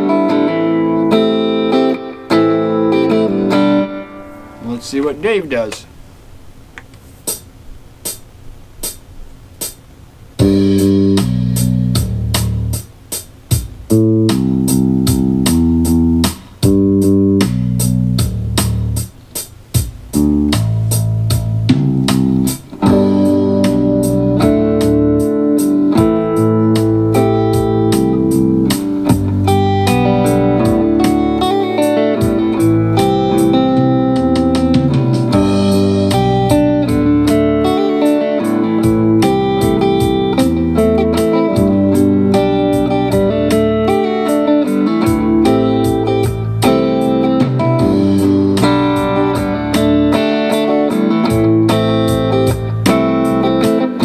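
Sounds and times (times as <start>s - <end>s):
electric guitar playing chords: 0.0s - 6.9s, 7.6s - 54.0s
drums and bass backing track: 0.0s - 54.0s.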